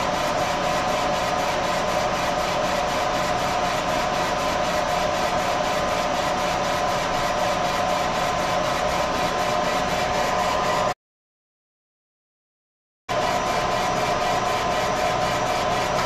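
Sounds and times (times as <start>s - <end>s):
laser engraver machine whir: 0.0s - 11.0s, 13.1s - 16.0s.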